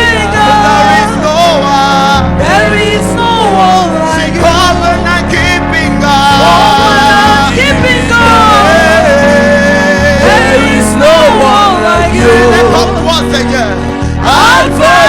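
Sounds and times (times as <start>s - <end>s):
bass: 0.0s - 15.0s
gliding melody line: 0.0s - 15.0s
keyboard chords: 0.0s - 15.0s.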